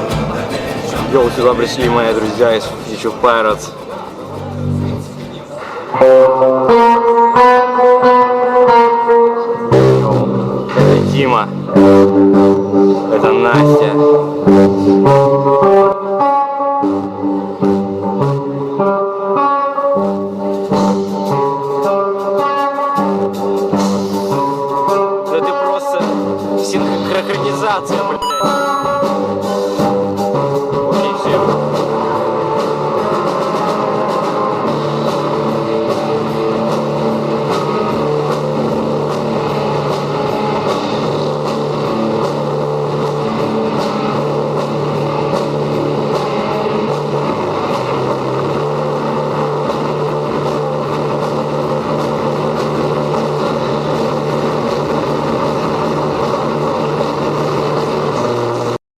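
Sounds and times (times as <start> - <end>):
loud rock music: 0.0 - 28.2, 29.1 - 58.8.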